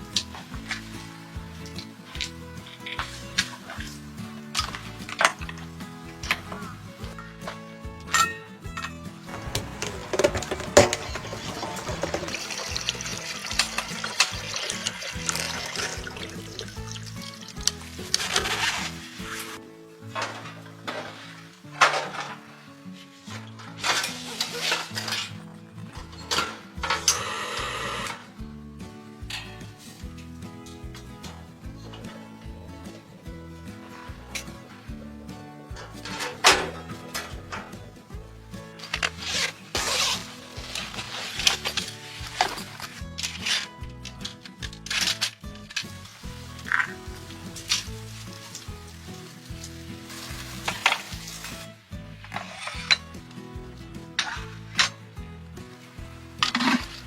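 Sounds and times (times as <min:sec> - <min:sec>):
music of held notes: 0:00.0 - 0:57.0
metal cookware clinking and scraping: 0:00.1 - 0:22.7, 0:23.3 - 0:27.2, 0:30.6 - 0:55.2.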